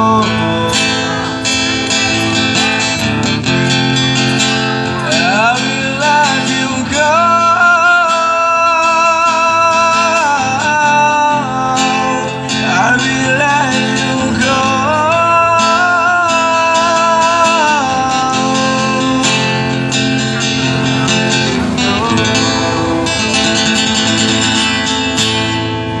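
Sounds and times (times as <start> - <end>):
acoustic guitar strumming: 0.0 - 26.0
held gliding melody line: 0.0 - 26.0.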